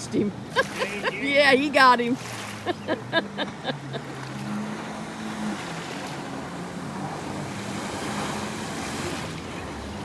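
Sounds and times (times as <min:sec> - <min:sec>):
jet ski engines revving: 0:00.0 - 0:10.0
water wash: 0:00.0 - 0:10.0.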